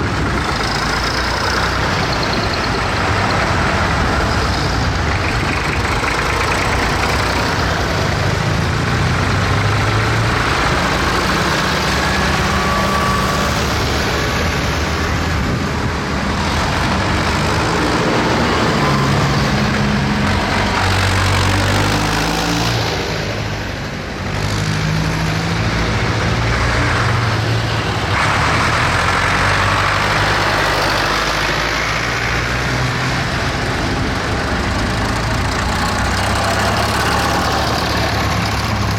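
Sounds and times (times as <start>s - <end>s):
tractor engines running: 0.0s - 38.9s.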